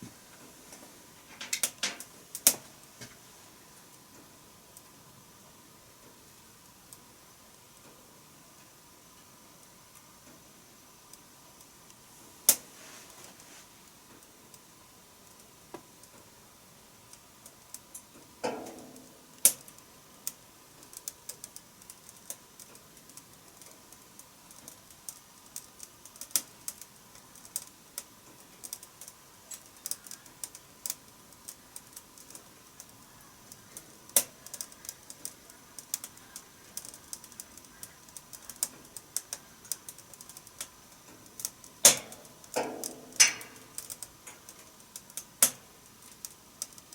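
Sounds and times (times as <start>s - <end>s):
wood fire crackling in a stove: 0.0s - 46.9s.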